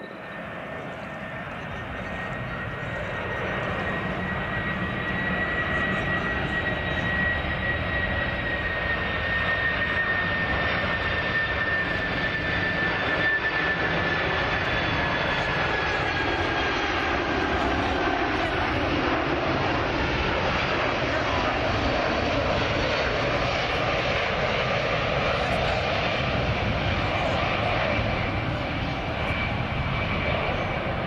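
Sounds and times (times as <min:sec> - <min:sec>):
jet engines whining: 0:00.0 - 0:31.0.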